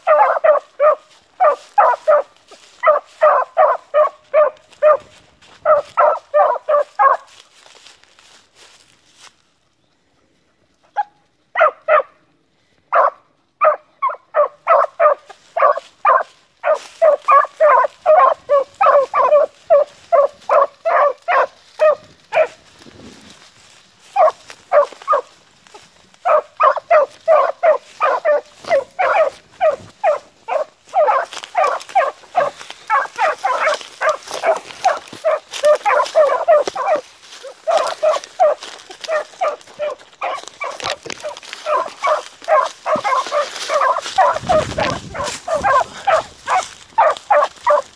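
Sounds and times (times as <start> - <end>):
hounds barking: 0.0 - 7.4, 10.8 - 12.3, 12.9 - 47.9.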